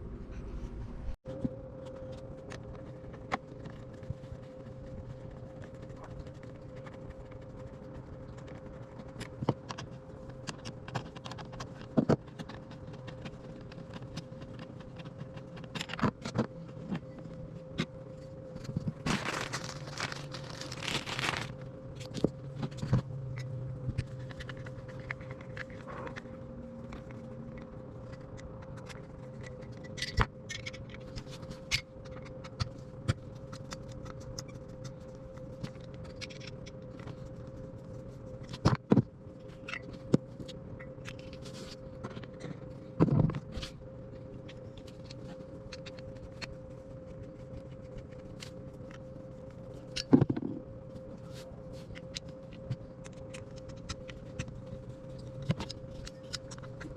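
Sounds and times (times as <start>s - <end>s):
low hum: 0.0s - 56.9s.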